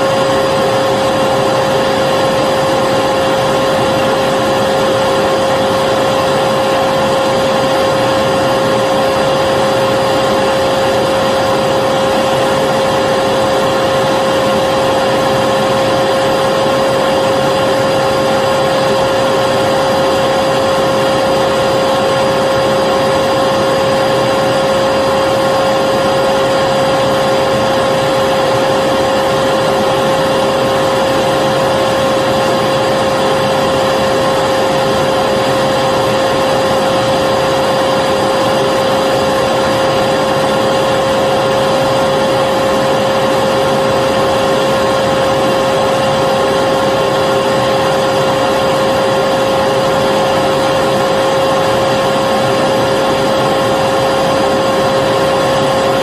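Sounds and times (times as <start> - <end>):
vacuum cleaner motor running: 0.0 - 56.0.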